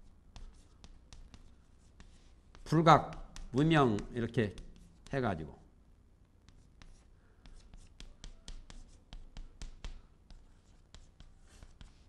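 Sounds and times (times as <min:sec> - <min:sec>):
chalk tapping and scraping: 0:00.0 - 0:05.6, 0:06.4 - 0:12.0.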